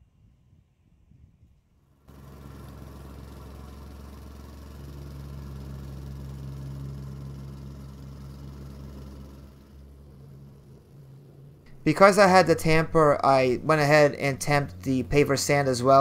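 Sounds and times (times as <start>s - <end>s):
plate compactor engine running: 2.1s - 15.2s.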